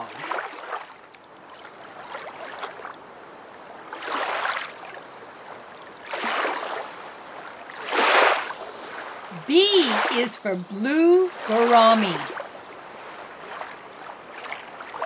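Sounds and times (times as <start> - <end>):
water swishing: 0.0 - 15.0.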